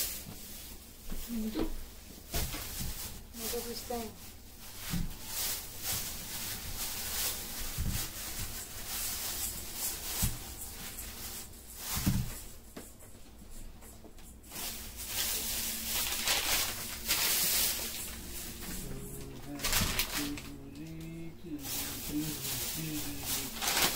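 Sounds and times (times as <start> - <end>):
plastic bags rustling: 0.0 - 23.9.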